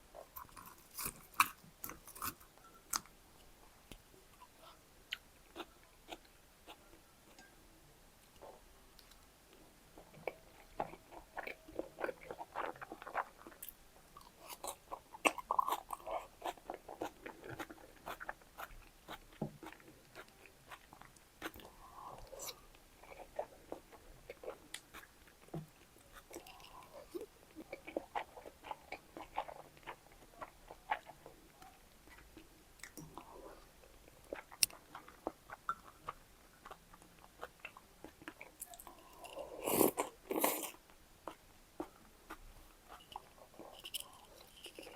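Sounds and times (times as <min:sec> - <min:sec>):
person chewing food: 0:00.1 - 0:03.1, 0:10.0 - 0:44.9.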